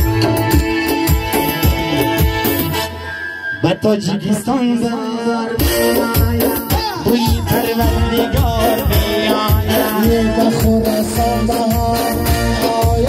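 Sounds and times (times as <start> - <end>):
man singing into a microphone: 0.0 - 2.8, 3.5 - 13.0
keyboard dance accompaniment: 0.0 - 13.0.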